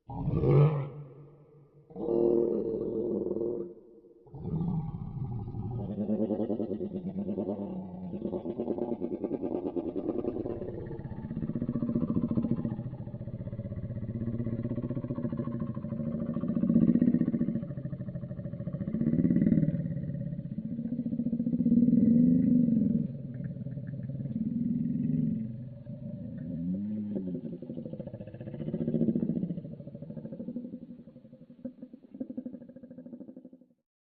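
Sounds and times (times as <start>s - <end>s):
deep drawn-out creature calls: 0.2s - 33.3s.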